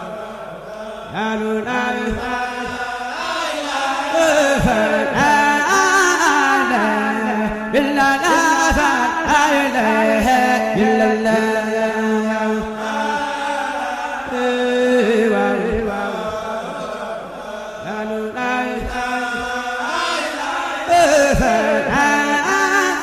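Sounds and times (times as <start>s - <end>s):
chanted singing: 0.0s - 23.0s.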